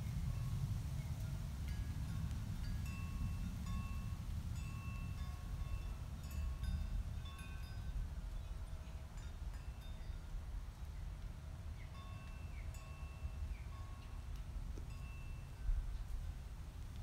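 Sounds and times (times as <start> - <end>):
wind chimes tinkling: 0.0 - 10.4, 11.8 - 16.0
steady low rumble: 0.0 - 17.0.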